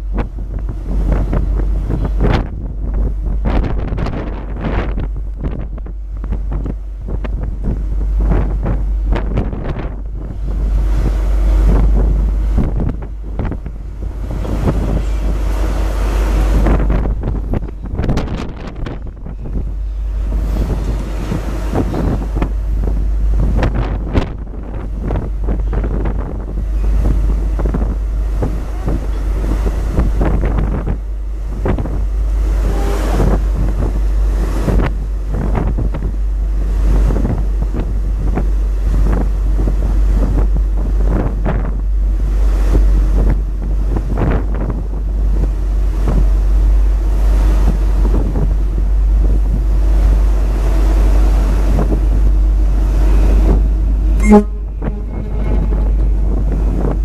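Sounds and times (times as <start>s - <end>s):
low rumble from ship: 0.0s - 57.0s
wind buffeting microphone: 0.0s - 57.0s.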